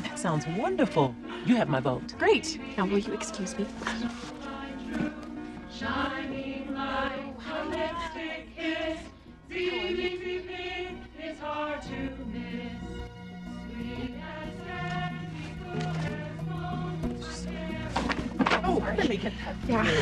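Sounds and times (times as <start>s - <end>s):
women singing together: 0.0s - 20.0s.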